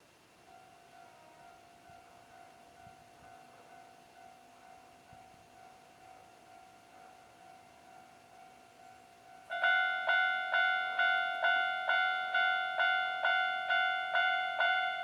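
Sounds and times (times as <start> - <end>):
level crossing warning bell: 2.2 - 15.0.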